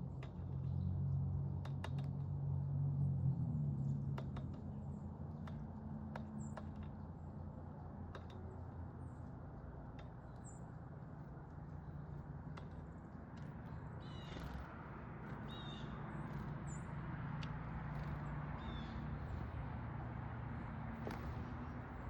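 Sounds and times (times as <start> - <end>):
birds tapping and clicking: 0.0 - 2.6, 3.8 - 22.0.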